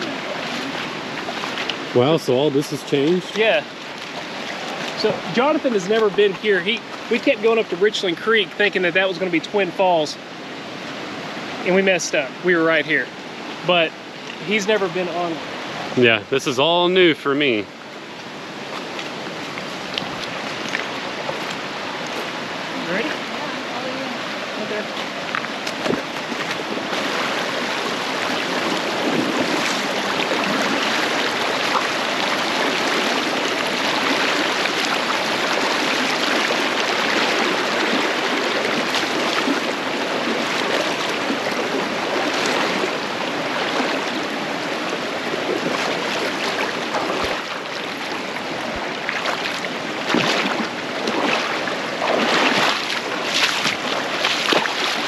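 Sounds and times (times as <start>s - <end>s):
creek water rushing over rocks: 0.0s - 55.0s.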